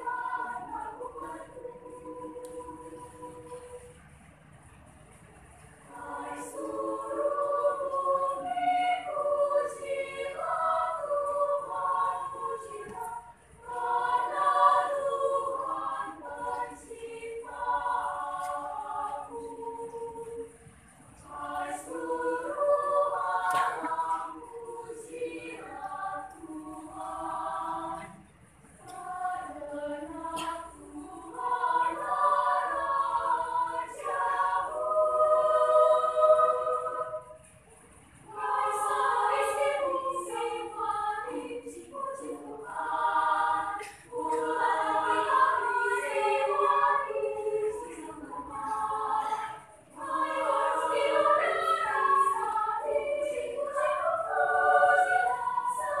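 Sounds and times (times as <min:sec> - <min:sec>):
children's choir singing: 0:00.0 - 0:04.2, 0:05.5 - 0:56.0.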